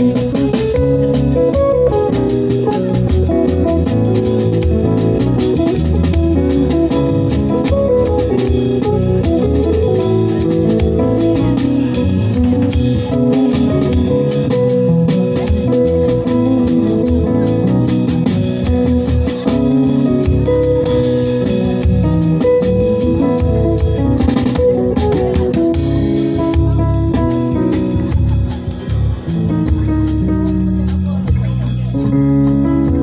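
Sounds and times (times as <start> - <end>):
bass guitar: 0.0 - 33.0
drum kit beat: 0.0 - 33.0
electric guitar: 0.0 - 33.0.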